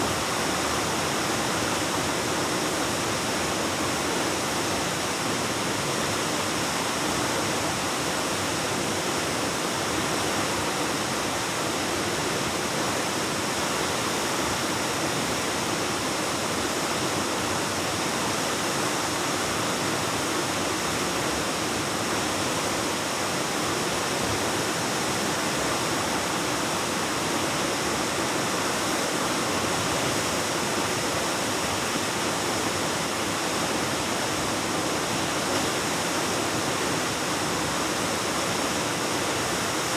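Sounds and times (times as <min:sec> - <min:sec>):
waterfall roaring in a cave: 0:00.0 - 0:39.9.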